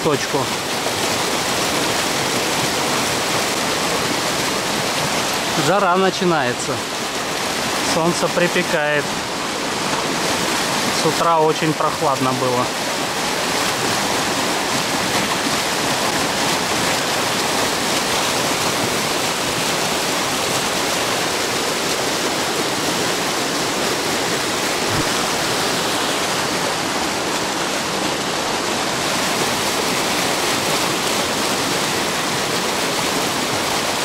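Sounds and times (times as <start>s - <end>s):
river rushing: 0.0s - 34.0s.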